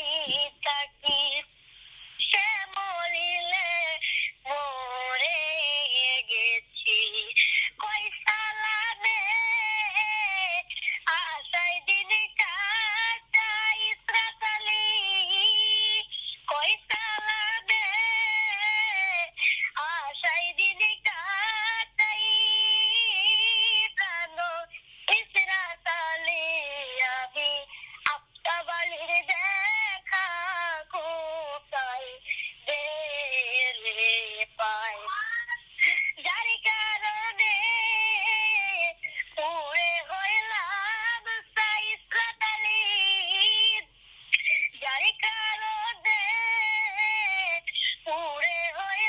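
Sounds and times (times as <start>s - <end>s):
electronically processed voice singing: 0.0s - 49.0s.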